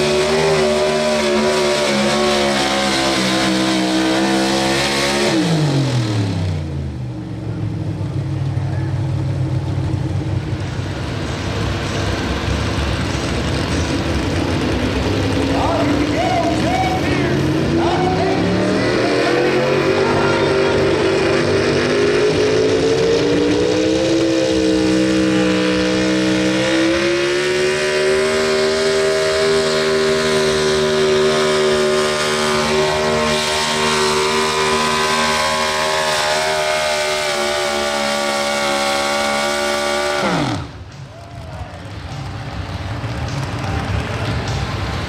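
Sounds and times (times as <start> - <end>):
sled grinding down track: 0.0 - 45.0
truck engine at full throttle: 0.0 - 45.0.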